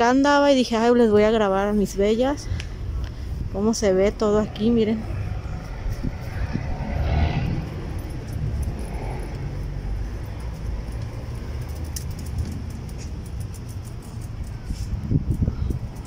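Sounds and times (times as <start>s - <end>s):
passing cars and buses rumble: 0.0s - 16.0s.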